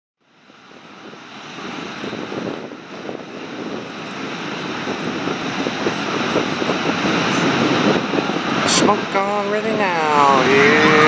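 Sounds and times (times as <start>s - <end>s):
jet engines roaring: 0.2s - 11.0s.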